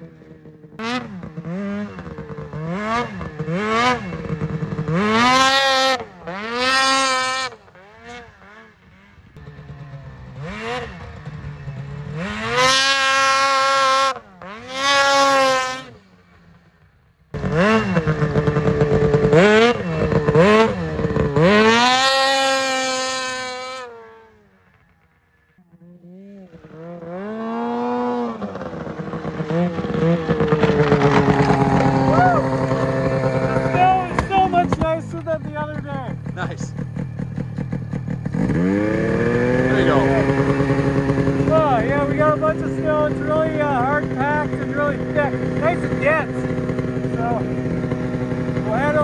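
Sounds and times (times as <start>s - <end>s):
snowmobile engine revving: 0.0s - 16.7s, 17.3s - 49.0s.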